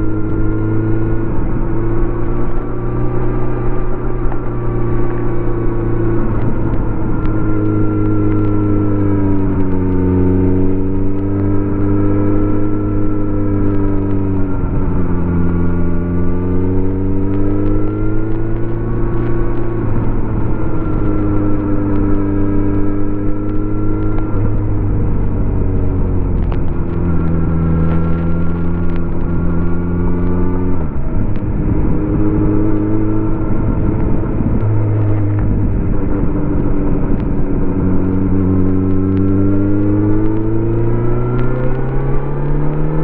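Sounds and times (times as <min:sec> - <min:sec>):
motorcycle engine and exhaust: 0:00.0 - 0:43.0.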